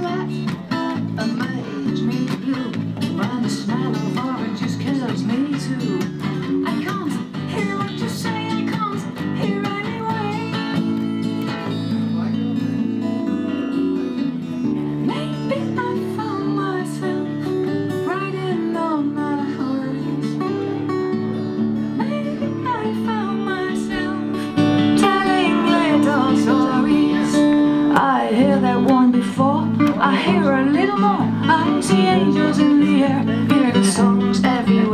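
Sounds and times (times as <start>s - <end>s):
woman singing: 0.0s - 11.0s, 14.9s - 20.9s, 21.8s - 34.9s
bass guitar: 0.0s - 15.8s, 20.5s - 34.9s
acoustic guitar strumming: 0.0s - 34.9s.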